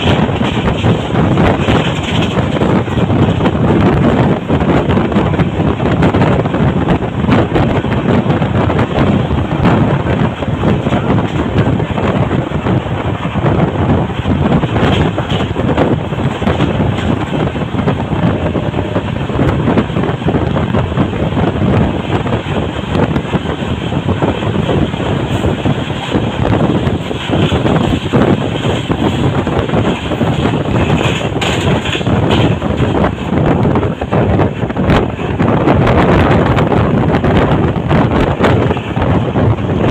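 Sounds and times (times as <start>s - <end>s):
train wheels rumbling on rails: 0.0s - 39.9s
wind buffeting microphone: 0.0s - 39.9s.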